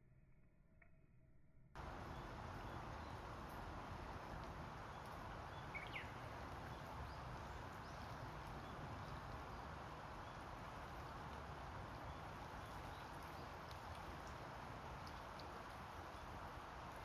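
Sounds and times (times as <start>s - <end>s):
faint outdoor ambience: 1.8s - 17.0s.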